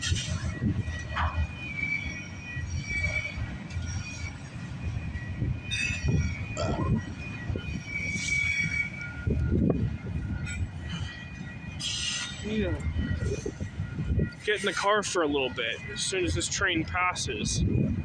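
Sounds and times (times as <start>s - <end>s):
steel wheels squealing: 0.0s - 16.6s
train cars rumbling over rails: 0.0s - 18.0s.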